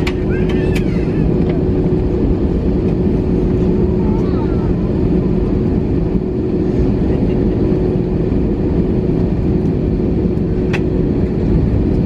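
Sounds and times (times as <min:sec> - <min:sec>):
aircraft engines idling: 0:00.0 - 0:12.0
constant cabin hum: 0:00.0 - 0:12.0.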